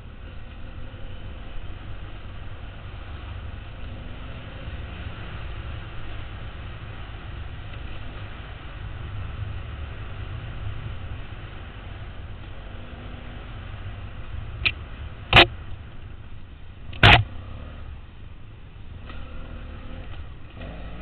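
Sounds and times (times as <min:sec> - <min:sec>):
wind buffeting microphone: 0:00.0 - 0:20.7
motorcycle engine running: 0:00.0 - 0:21.0.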